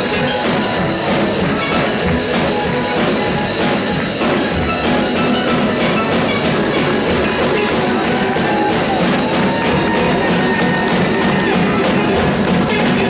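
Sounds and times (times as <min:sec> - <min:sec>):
drum kit beat: 0:00.0 - 0:13.0
steel pans playing: 0:00.0 - 0:13.0.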